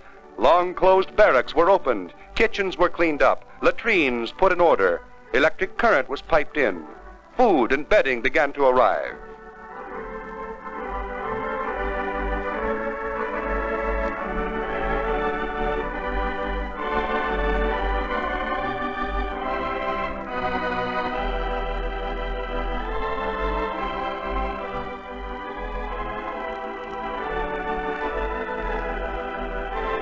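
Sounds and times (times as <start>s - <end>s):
organ-like held chords: 0.0s - 30.0s.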